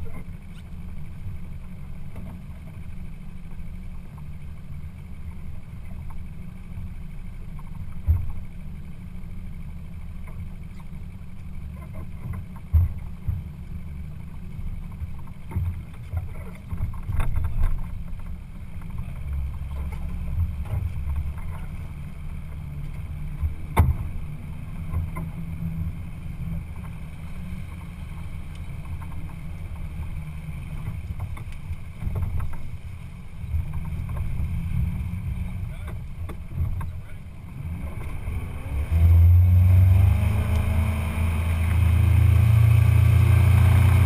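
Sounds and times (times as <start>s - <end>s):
boat engine rumble: 0.0s - 44.0s.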